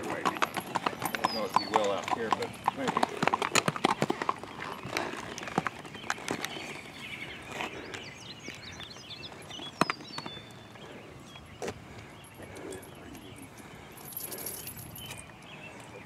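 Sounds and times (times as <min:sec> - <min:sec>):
hooves clopping on asphalt: 0:00.0 - 0:16.0.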